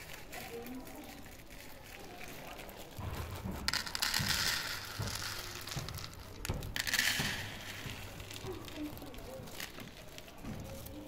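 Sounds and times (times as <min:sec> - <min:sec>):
kibble pouring onto plastic plate: 0:00.0 - 0:11.0
plastic bag crinkling: 0:00.0 - 0:11.0.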